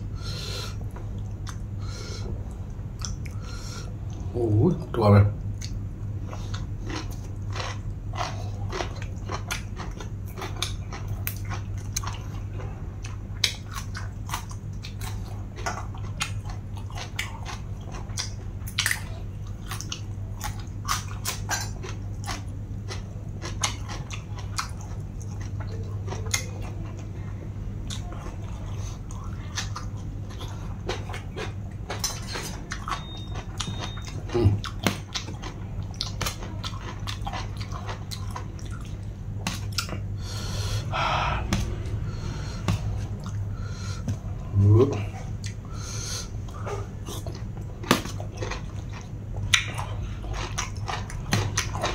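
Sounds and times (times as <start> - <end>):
steady low hum: 0.0 - 51.9
person chewing crisp food: 0.4 - 4.3, 5.5 - 51.9.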